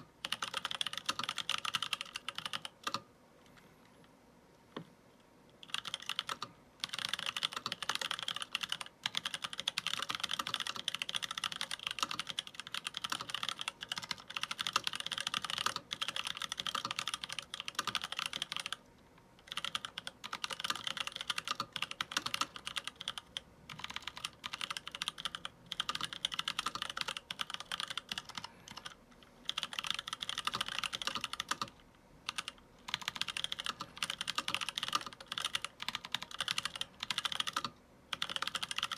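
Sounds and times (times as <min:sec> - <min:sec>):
mechanical keyboard typing: 0:00.0 - 0:03.0, 0:05.6 - 0:18.8, 0:19.4 - 0:38.9.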